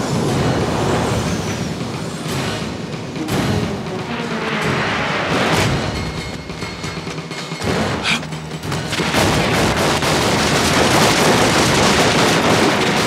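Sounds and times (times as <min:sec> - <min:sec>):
continuous gunfire: 0:00.0 - 0:13.0
film music score: 0:00.0 - 0:13.0.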